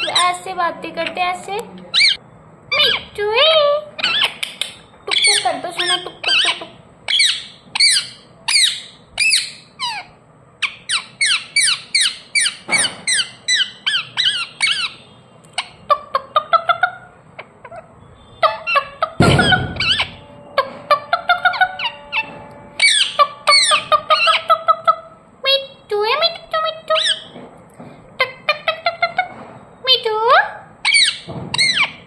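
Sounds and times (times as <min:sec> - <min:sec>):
parakeet chirping: 0:00.0 - 0:27.4, 0:29.9 - 0:32.0.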